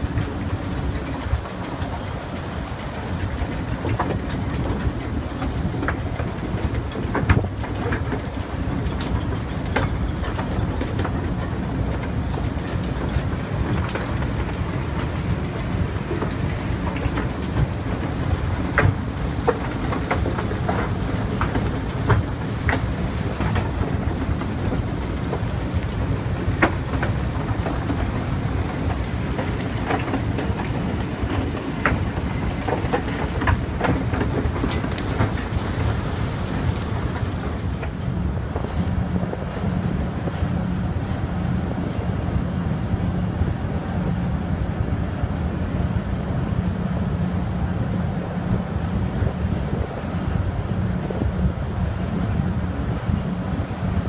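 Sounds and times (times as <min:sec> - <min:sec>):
excavator wheel rumble: 0:00.0 - 0:54.0
machinery and conveyor drone: 0:00.0 - 0:54.0.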